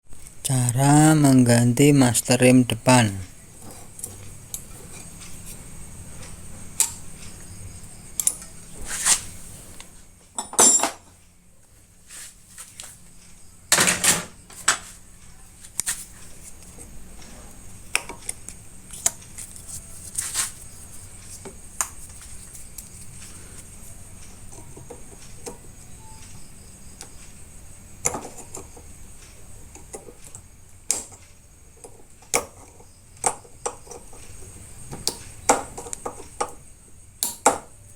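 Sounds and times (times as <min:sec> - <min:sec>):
faint steady hum: 0:00.1 - 0:37.9.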